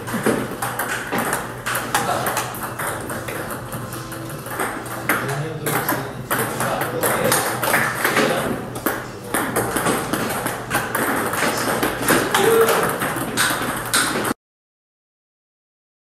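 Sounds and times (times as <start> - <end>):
table tennis balls clicking: 0.0 - 14.4.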